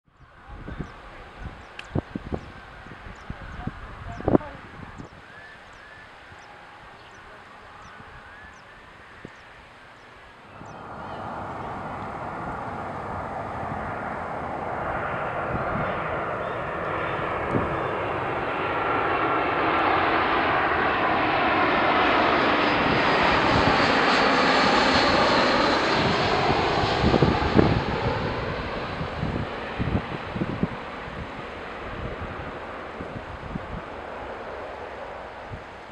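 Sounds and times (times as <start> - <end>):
jet engine noise: 0.1 - 35.9.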